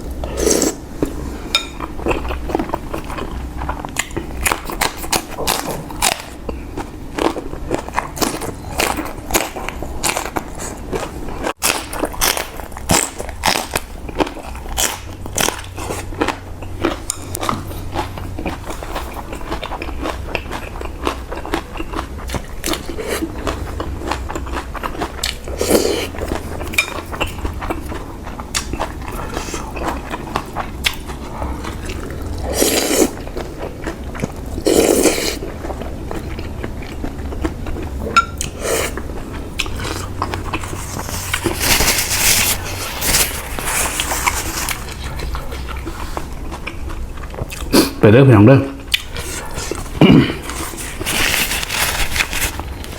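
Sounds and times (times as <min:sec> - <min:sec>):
low steady hum: 0:00.0 - 0:52.9
chewing and biting: 0:01.8 - 0:48.0, 0:48.8 - 0:52.9.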